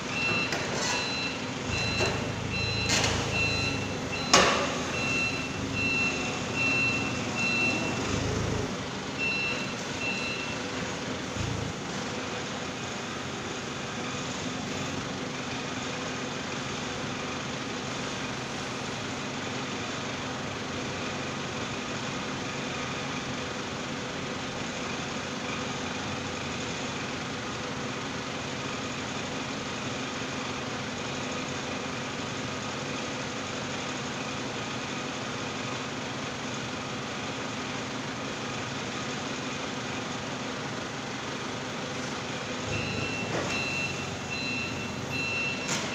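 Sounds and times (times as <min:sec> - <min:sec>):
forklift engine idling: 0:00.0 - 0:45.9.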